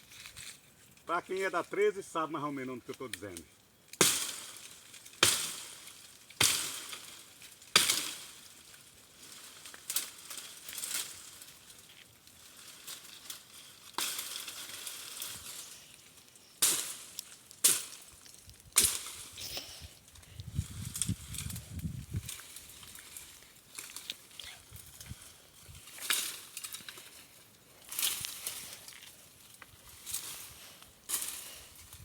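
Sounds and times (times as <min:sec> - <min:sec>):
dry brush rustling: 0:00.0 - 0:03.4, 0:08.1 - 0:32.0
dry wood cracking: 0:00.0 - 0:32.0.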